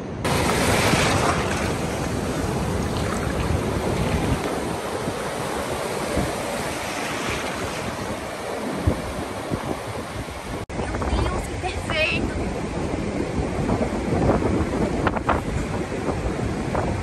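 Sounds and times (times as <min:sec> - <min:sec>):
wind buffeting the microphone: 0:00.0 - 0:17.0
waves washing up a beach: 0:00.2 - 0:17.0.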